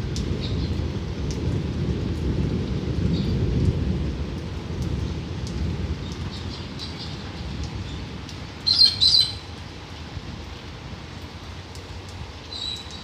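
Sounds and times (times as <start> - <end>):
rolling thunder rumbling: 0.0 - 11.2
rain pattering: 0.0 - 13.0.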